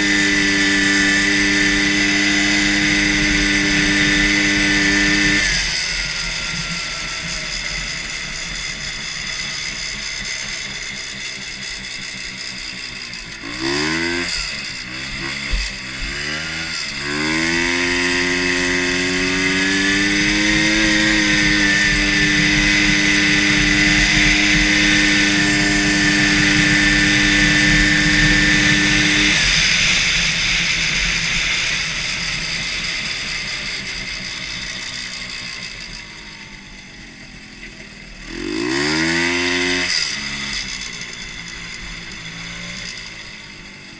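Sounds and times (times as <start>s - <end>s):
two-stroke engine revving: 0.0s - 43.9s.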